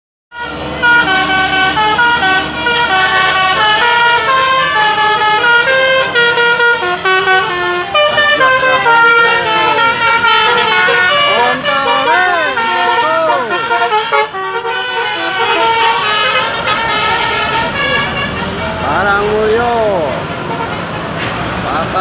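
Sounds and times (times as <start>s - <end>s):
multi-tone musical air horn: 0.3s - 18.8s.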